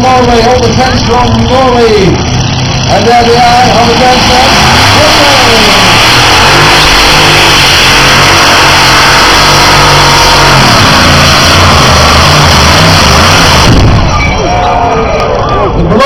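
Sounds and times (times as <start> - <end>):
engines running at full throttle: 0.0 - 16.0.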